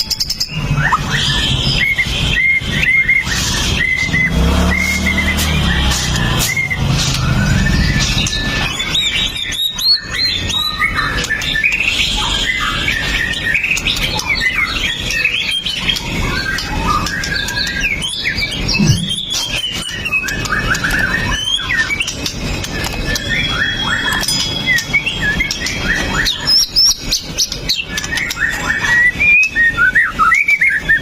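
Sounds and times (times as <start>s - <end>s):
bird singing whistled phrases: 0.0s - 31.0s.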